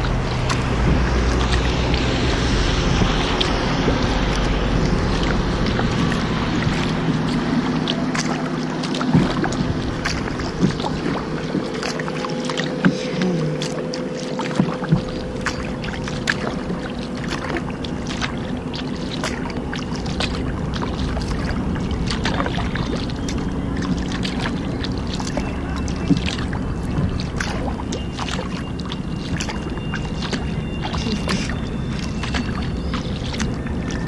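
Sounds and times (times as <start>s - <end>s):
paddle splashing water: 0.0s - 34.0s
steady low hum: 0.0s - 34.0s.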